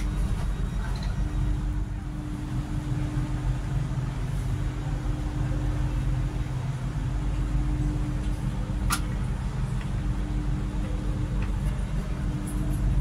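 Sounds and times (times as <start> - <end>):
train equipment rumble and hum: 0.0 - 13.0.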